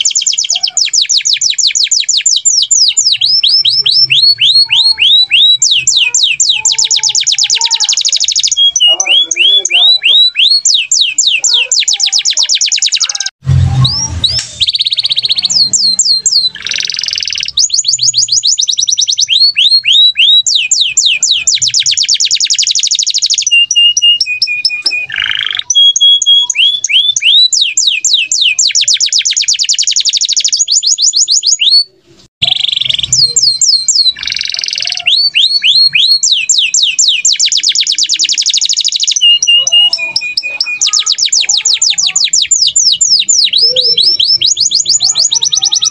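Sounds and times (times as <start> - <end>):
cage birds singing trills: 0.0 - 45.9.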